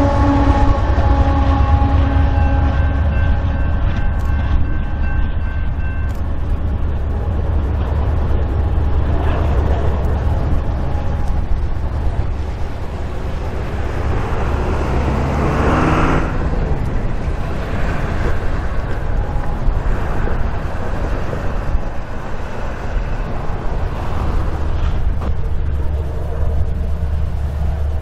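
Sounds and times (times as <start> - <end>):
diesel locomotives rumbling: 0.0 - 28.0.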